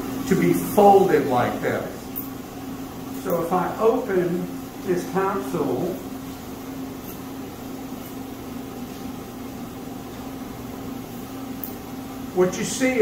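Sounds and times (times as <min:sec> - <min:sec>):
equipment and ventilation hum: 0:00.0 - 0:13.0.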